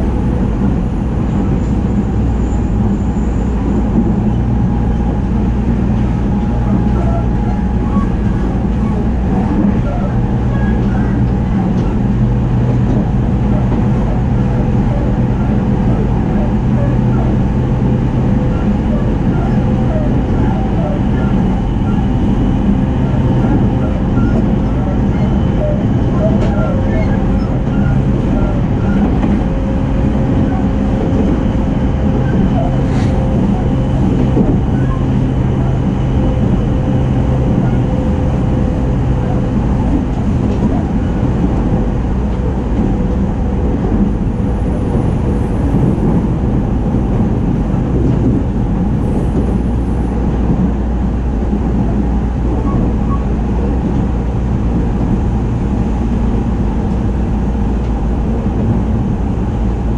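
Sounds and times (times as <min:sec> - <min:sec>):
low motor hum: 0:00.0 - 0:59.9
train wheels rumbling on rail: 0:00.0 - 0:59.9.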